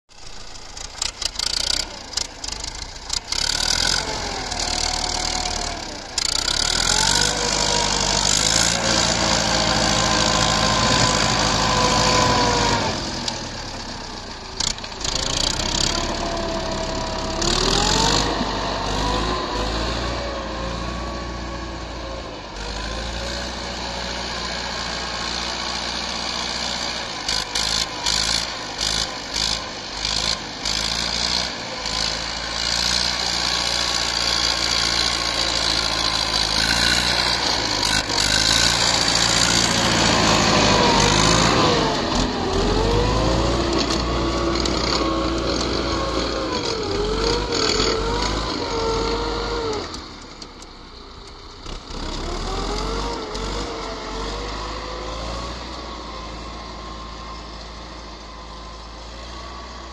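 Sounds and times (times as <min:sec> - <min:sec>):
tractor diesel engine under load: 0:00.1 - 0:59.9.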